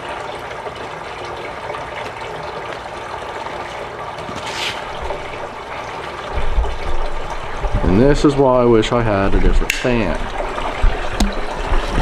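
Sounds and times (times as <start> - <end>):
water running into container: 0.0 - 12.0.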